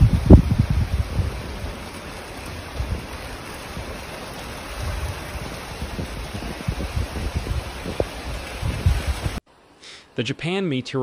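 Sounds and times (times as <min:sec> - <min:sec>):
wind buffeting microphone: 0:00.0 - 0:09.4
rain and water rushing: 0:00.0 - 0:11.0.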